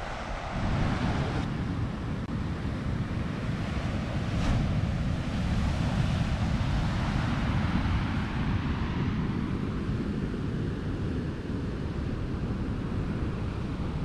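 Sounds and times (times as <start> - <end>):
ocean waves breaking on beach: 0.0 - 14.0
wind buffeting microphone: 0.0 - 14.0.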